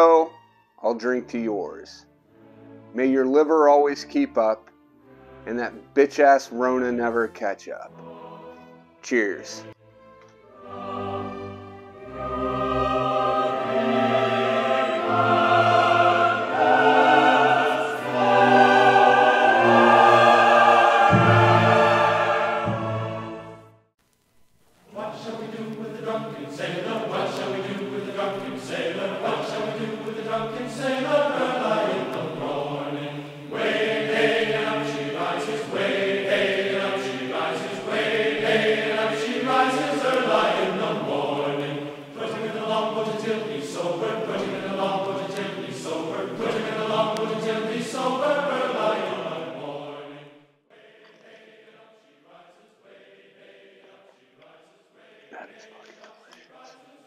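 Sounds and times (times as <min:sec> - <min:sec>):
choir singing sustained chords: 0:07.7 - 0:23.8, 0:24.8 - 0:57.0.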